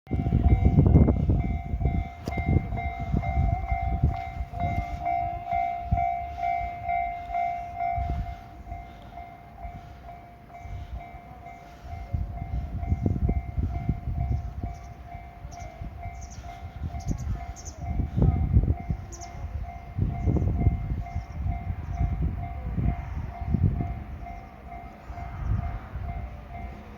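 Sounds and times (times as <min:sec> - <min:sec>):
level crossing warning bell: 0:00.1 - 0:26.9
train rumbling past: 0:00.1 - 0:26.9.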